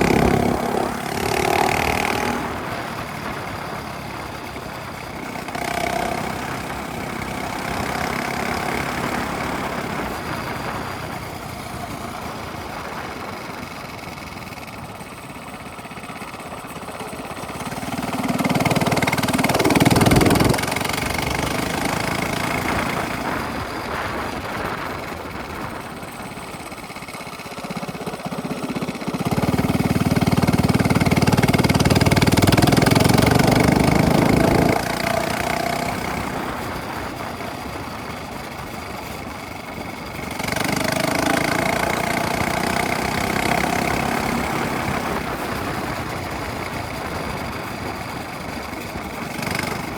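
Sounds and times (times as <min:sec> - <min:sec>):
minibike engine revving: 0:00.0 - 0:49.9.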